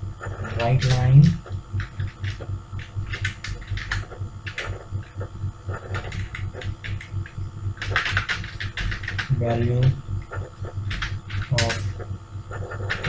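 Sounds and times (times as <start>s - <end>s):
low pulsing hum: 0.0s - 13.0s
keyboard typing: 0.3s - 13.0s.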